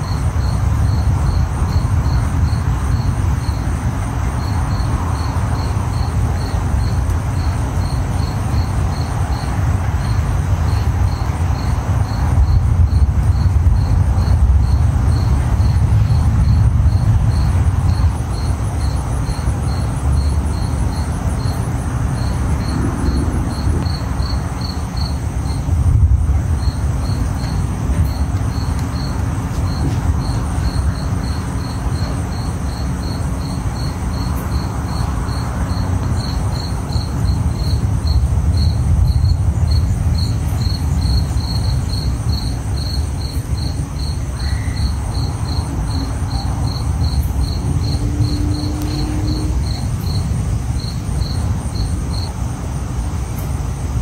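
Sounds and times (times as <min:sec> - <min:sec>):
insect chirping: 0:00.0 - 0:54.0.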